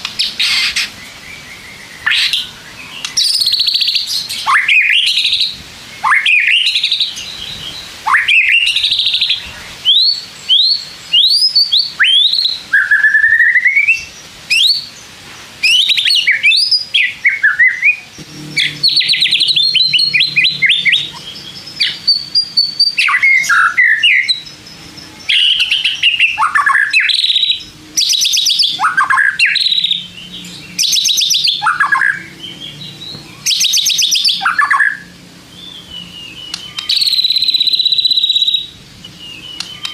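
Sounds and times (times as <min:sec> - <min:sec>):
bird singing whistles: 0:00.2 - 0:14.9, 0:15.6 - 0:24.5, 0:25.3 - 0:39.9.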